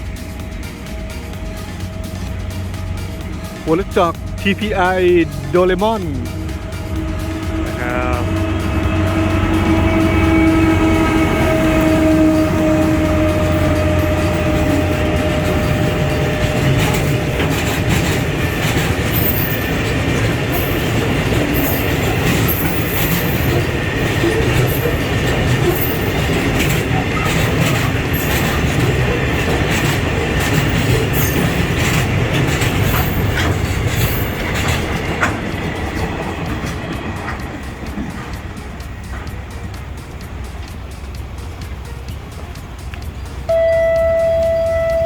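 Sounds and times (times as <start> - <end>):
train horn blast: 0.0 - 39.6, 43.3 - 45.0
wheels clicking over rail joints: 0.0 - 43.6
diesel locomotive rumble: 0.0 - 45.0
high-pitched wheel squeals: 0.0 - 45.0.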